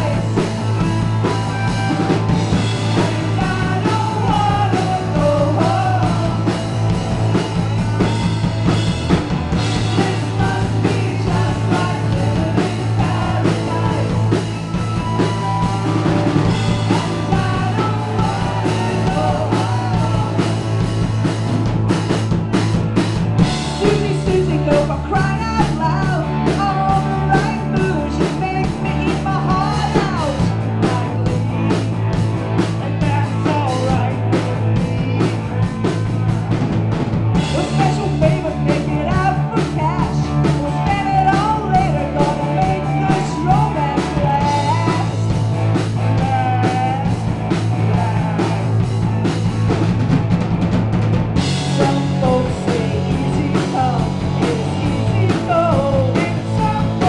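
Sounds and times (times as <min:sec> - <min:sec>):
woman singing: 0:00.0 - 0:08.4, 0:09.6 - 0:15.8, 0:16.5 - 0:21.0, 0:23.6 - 0:31.8, 0:32.8 - 0:35.8, 0:37.4 - 0:45.4, 0:46.0 - 0:48.7, 0:51.6 - 0:57.0
drum kit: 0:00.0 - 0:57.0
electric guitars: 0:00.0 - 0:57.0
low bass notes: 0:00.0 - 0:57.0.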